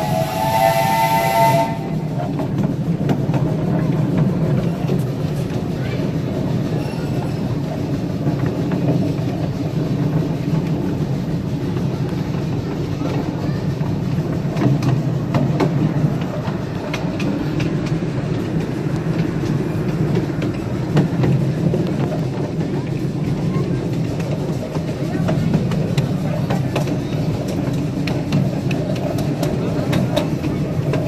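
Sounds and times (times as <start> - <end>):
train wheels rumbling on track: 0.0 - 31.0
wheels clicking over rail joints: 0.0 - 31.0.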